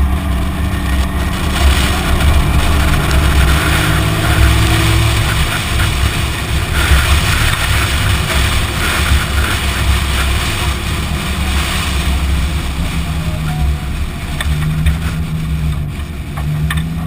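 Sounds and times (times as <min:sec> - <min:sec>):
car engine running under load: 0:00.0 - 0:17.0
wind rushing over microphone: 0:00.0 - 0:17.0.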